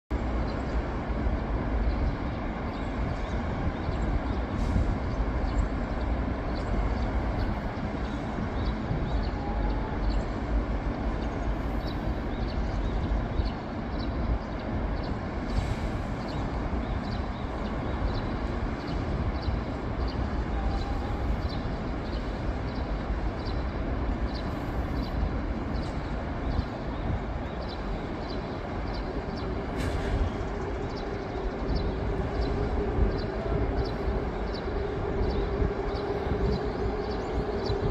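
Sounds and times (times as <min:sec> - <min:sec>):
road traffic rumbling: 0:00.1 - 0:37.9.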